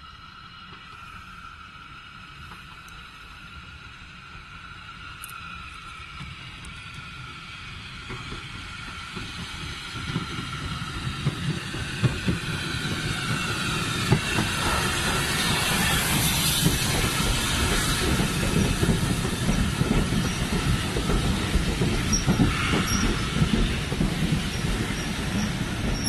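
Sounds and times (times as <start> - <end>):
steam hiss: 0.0 - 26.0
train wheels rumbling on rails: 0.0 - 26.0.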